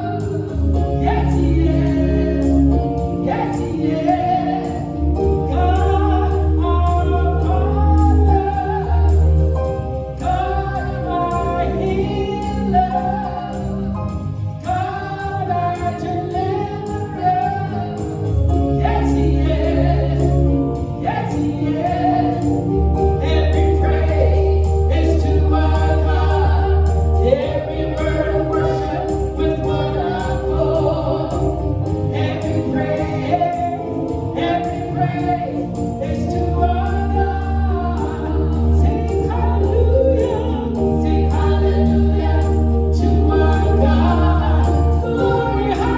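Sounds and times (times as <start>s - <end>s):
choir singing gospel music: 0.0s - 45.9s.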